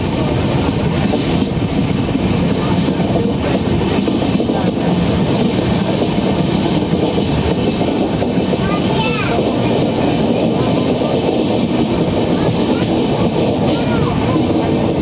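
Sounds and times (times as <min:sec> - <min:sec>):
rumble of train wheels on rails: 0:00.0 - 0:15.0.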